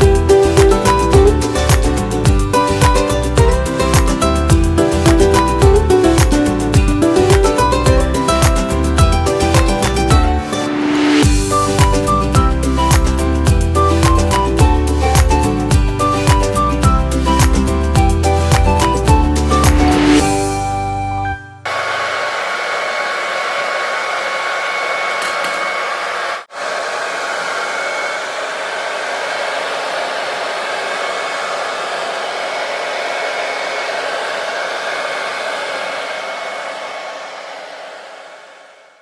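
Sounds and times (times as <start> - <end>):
hair dryer running: 0.0 - 20.6, 21.7 - 39.0.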